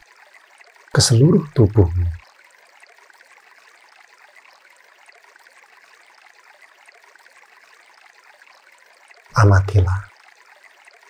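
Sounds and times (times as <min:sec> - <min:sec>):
gentle flowing water: 0:00.0 - 0:11.0.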